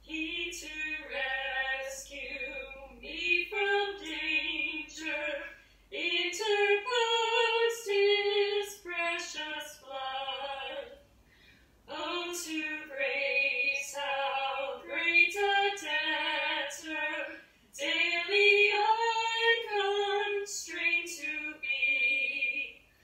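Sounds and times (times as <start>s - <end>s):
women singing a hymn: 0.0s - 11.0s, 11.9s - 22.8s.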